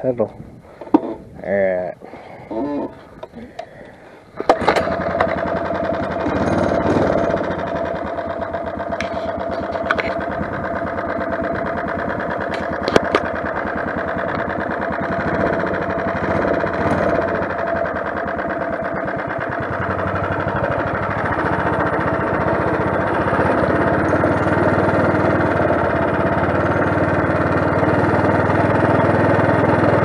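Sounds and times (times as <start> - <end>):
small four-stroke engine running: 2.5 - 30.0.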